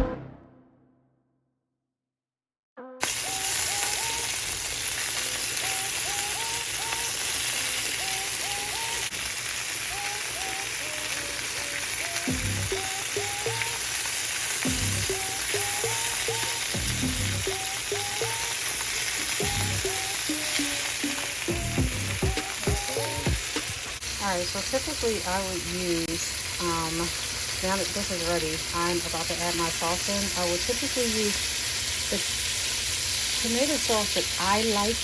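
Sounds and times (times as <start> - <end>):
vegetables sizzling in a pot: 3.0 - 35.0.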